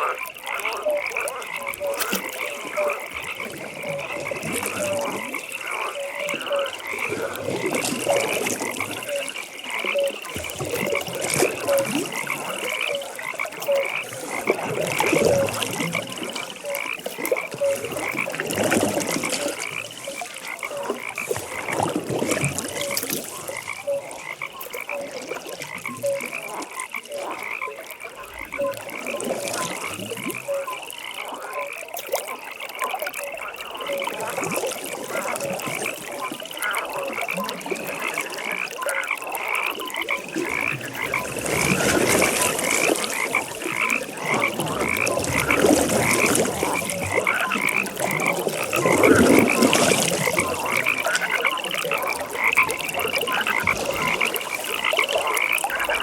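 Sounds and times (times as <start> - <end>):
high frog call: 0.0 - 56.0
low frog croak: 0.0 - 56.0.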